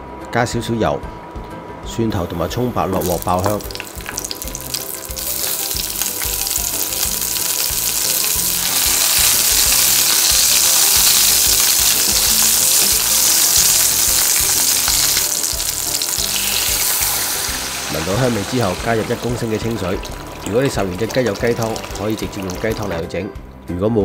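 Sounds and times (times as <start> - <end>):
food sizzling in hot oil: 2.9 - 23.0.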